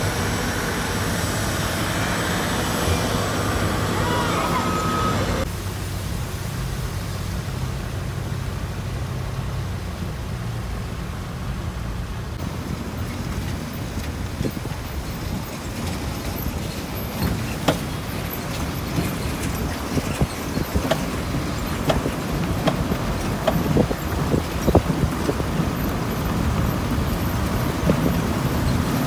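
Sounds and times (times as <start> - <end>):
traffic engines rumbling: 0.0 - 29.0.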